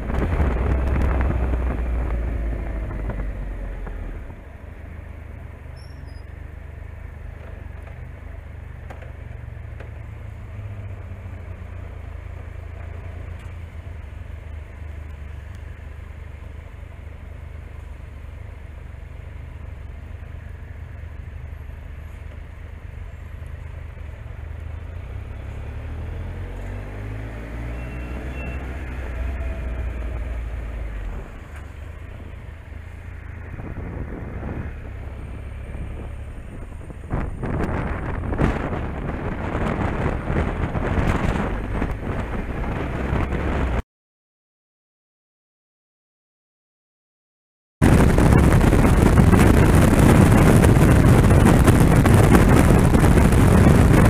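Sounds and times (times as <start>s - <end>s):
road noise: 0.0s - 43.8s, 47.8s - 54.0s.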